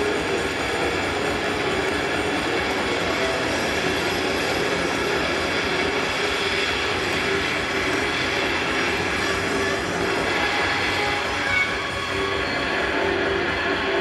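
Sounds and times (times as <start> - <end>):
dense wall of noise: 0.0 - 14.0
faint sustained tones: 0.0 - 14.0.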